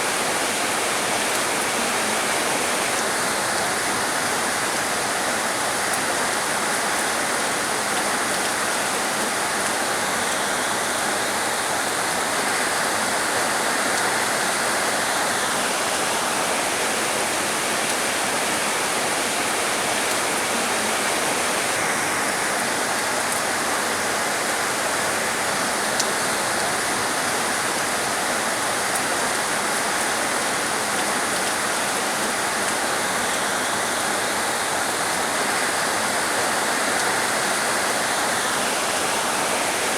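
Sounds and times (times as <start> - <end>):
heavy rain falling: 0.0 - 39.9
high sizzling rain layer: 0.0 - 39.9.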